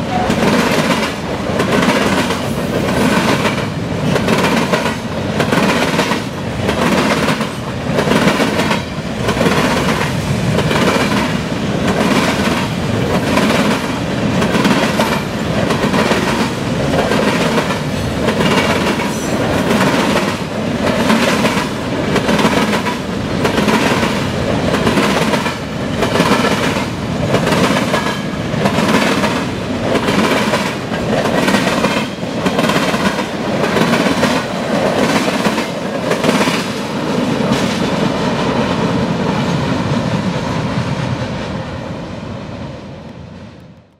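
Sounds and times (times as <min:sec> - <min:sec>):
train wheels clacking on track: 0:00.0 - 0:39.7
train rumble: 0:00.0 - 0:43.9.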